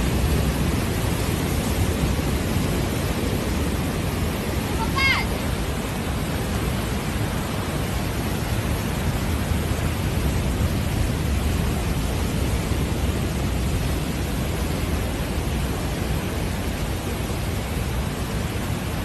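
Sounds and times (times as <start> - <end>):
strong wind roaring: 0.0 - 19.0
surf: 0.0 - 19.0
wind buffeting microphone: 0.0 - 19.0.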